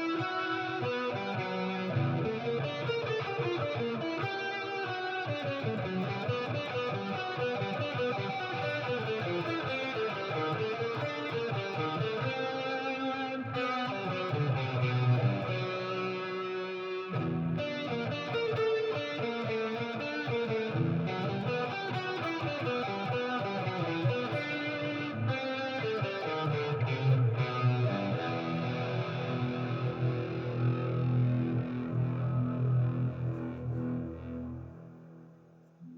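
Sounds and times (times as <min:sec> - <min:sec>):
filtered electric guitar: 0:00.0 - 0:35.9.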